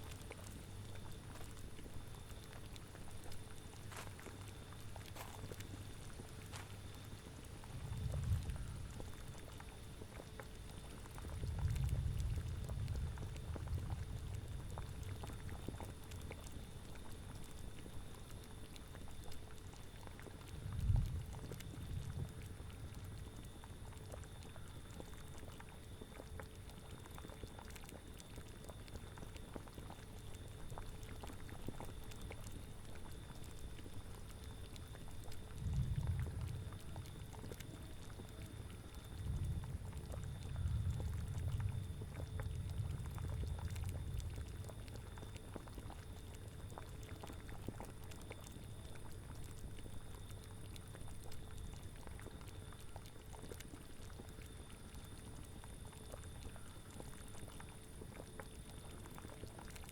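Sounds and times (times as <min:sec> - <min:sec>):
cauldron bubbling: 0:00.1 - 0:59.9.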